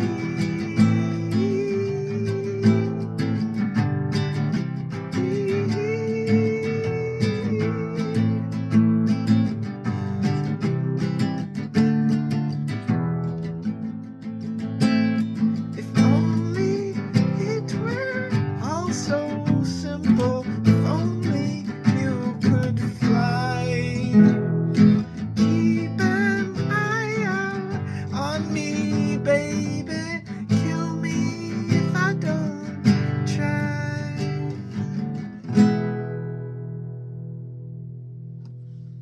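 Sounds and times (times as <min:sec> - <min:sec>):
acoustic guitar strumming with melody: 0:00.0 - 0:39.0.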